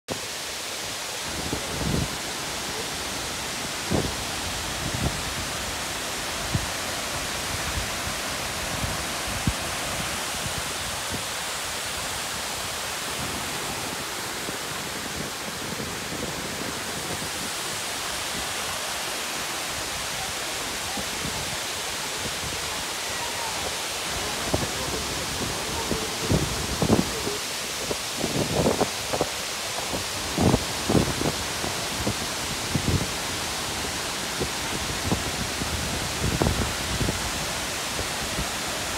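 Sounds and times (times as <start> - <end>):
waterfall rushing: 0.1 - 38.9.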